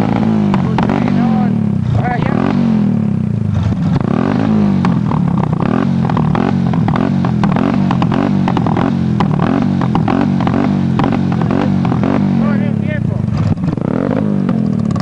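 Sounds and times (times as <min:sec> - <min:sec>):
motorcycle engine at rev limiter: 0:00.0 - 0:15.0.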